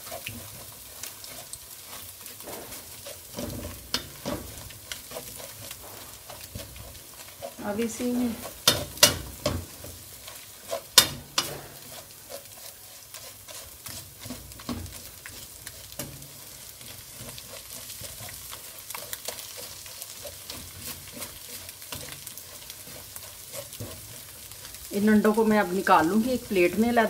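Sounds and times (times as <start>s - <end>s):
eggs sizzling in oil: 0.0s - 27.0s
spatula scraping metal pan: 0.0s - 27.0s.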